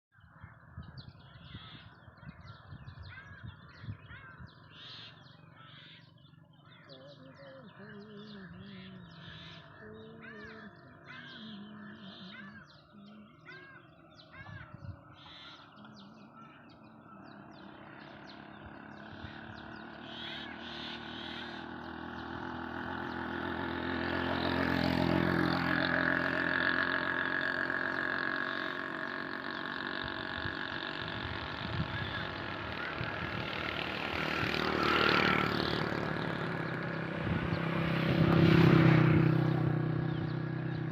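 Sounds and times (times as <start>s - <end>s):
birds chirping: 0.1s - 40.9s
vehicle engine running: 1.2s - 40.9s.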